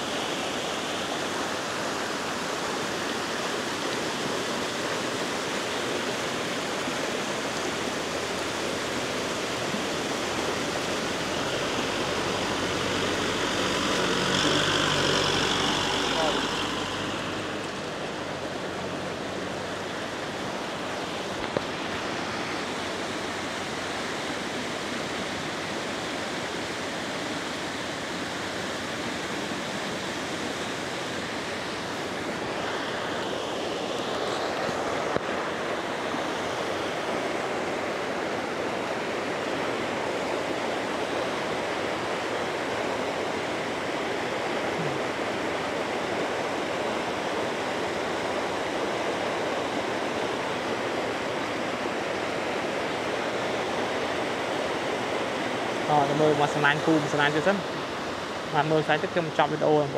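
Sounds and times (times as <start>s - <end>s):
rushing floodwater: 0.0s - 59.9s.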